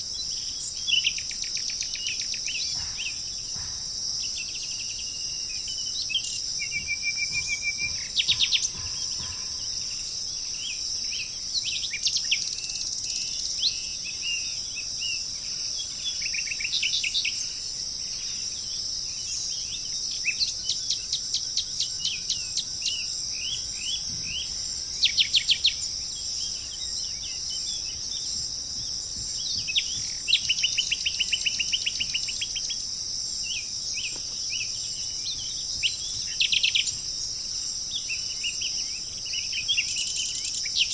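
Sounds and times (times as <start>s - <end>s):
crickets chirping: 0.0s - 40.9s
small birds singing: 0.0s - 40.9s.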